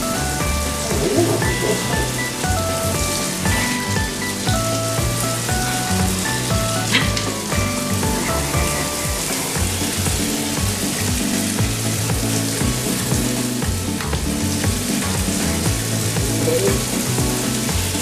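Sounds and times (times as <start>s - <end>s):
background music: 0.0s - 18.0s
shower spray hissing: 0.0s - 18.0s.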